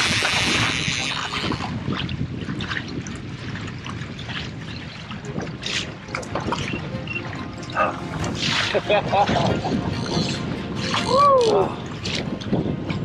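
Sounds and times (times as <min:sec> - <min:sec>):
fish thrashing and splashing: 0:00.0 - 0:12.8
wind buffeting microphone: 0:00.0 - 0:13.0.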